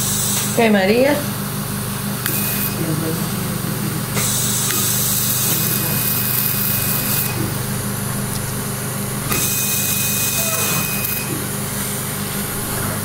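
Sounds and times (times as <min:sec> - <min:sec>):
surgical equipment hum and hiss: 0:00.0 - 0:13.0.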